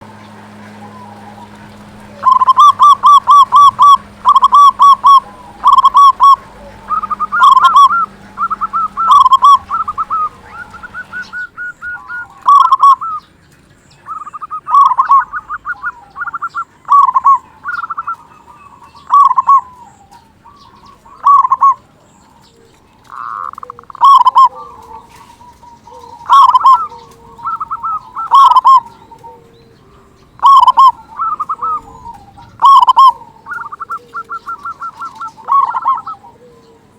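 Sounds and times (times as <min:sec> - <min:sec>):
dove cooing: 0:00.0 - 0:36.9.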